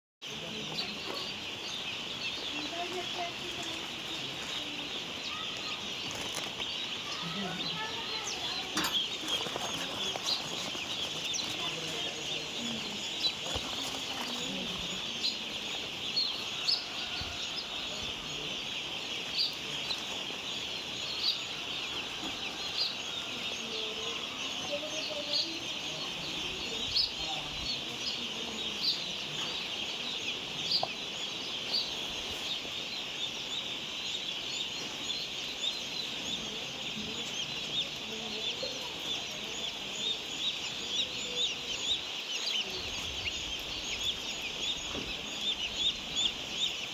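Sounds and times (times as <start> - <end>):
chicks peeping: 0.2 - 46.9.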